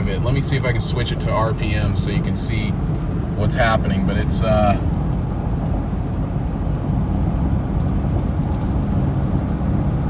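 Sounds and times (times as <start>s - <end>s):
engine running rough: 0.0s - 10.0s.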